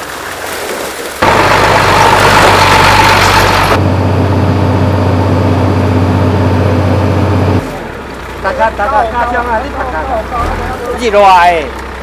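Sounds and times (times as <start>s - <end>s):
low engine drone: 1.2s - 12.0s.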